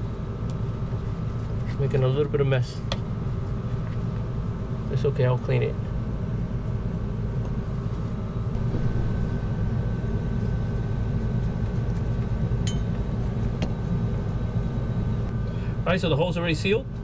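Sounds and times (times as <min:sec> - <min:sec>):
faint high whine: 0:00.0 - 0:17.0
low mechanical hum: 0:00.0 - 0:17.0.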